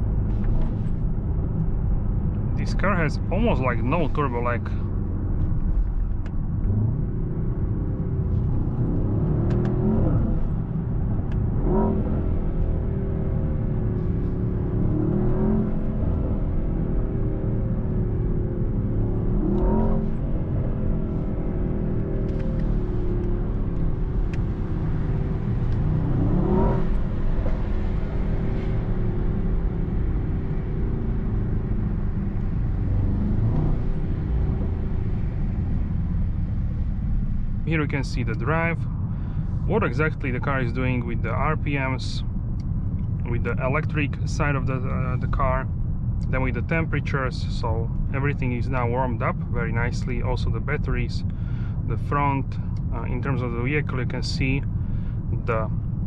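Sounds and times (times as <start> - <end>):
car engine accelerating: 0.0 - 56.0
road rumble inside car: 0.0 - 56.0.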